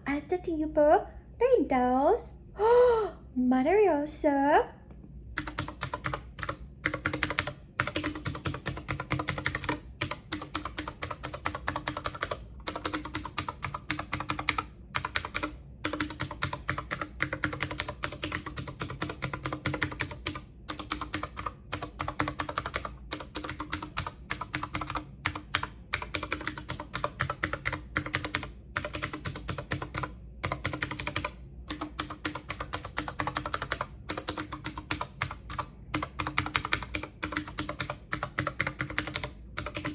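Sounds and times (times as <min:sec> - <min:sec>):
typing on computer keyboard: 0:05.4 - 0:39.9.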